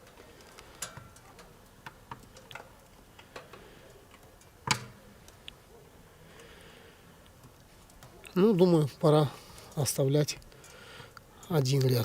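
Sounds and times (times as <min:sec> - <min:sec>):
firewood crackling in a stove: 0:00.0 - 0:12.0.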